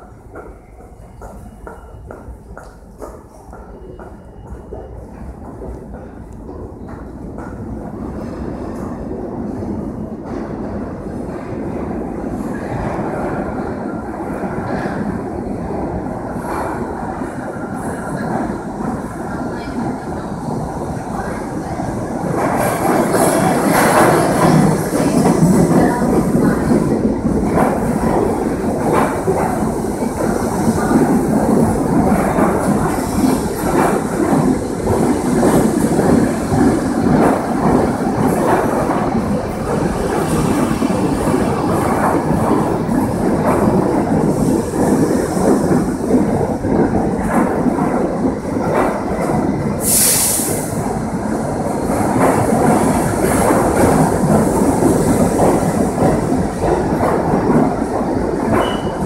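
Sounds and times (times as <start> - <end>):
subway train wheels rumbling on rails: 0.0 - 59.0.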